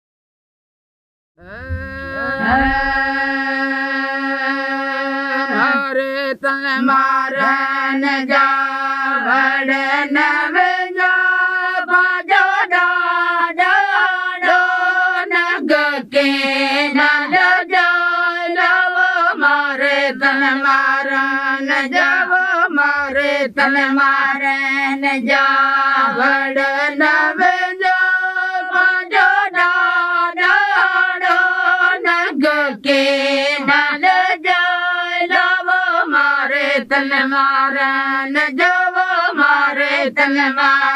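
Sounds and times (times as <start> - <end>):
women singing in unison: 1.4 - 40.9.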